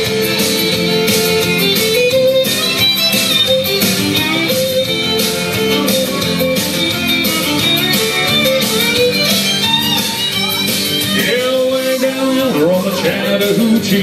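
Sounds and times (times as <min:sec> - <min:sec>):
country music with guitar: 0:00.0 - 0:14.0.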